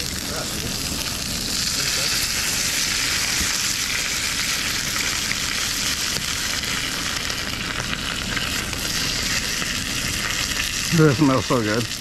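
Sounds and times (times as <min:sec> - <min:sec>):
fish sizzling in frying oil: 0:00.0 - 0:12.0.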